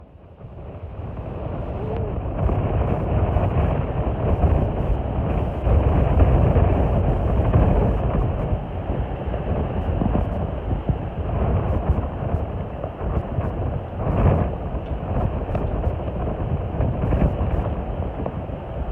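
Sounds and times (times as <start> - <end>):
wind rumbling on microphone: 0.0 - 18.9.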